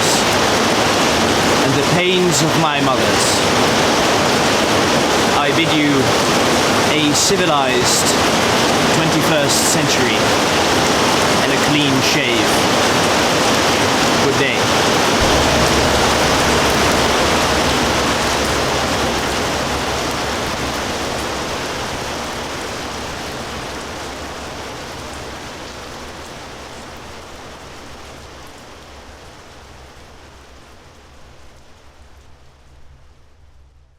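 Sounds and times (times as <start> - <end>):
heavy rain hissing: 0.0 - 32.6.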